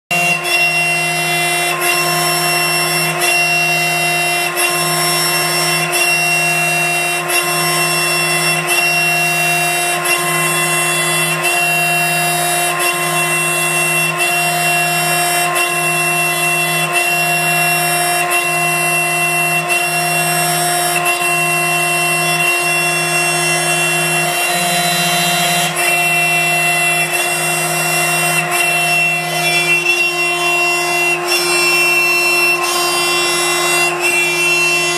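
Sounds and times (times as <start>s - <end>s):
router spindle high whine: 0.1s - 34.9s.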